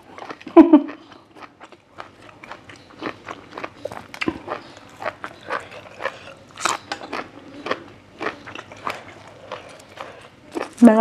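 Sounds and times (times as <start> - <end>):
wet chewing mouth clicks: 0.2 - 10.8.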